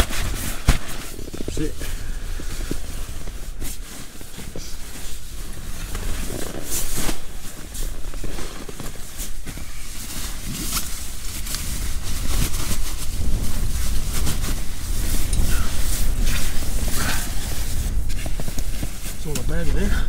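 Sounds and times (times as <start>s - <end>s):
nylon sleeping bag rustling: 0.0s - 20.0s
strong wind buffeting a tent: 0.0s - 20.0s.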